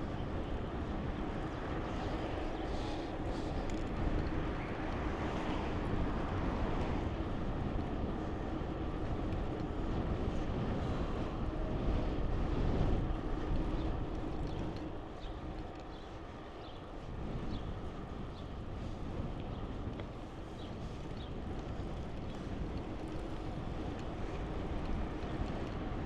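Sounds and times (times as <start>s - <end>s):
city traffic rumble: 0.0s - 26.0s
wind on microphone: 0.0s - 26.0s.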